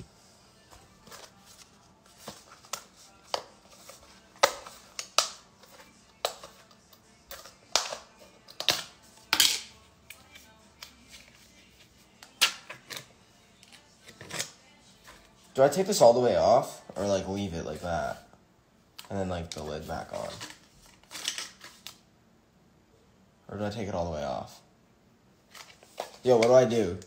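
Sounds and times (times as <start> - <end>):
faint music: 0.0 - 27.0.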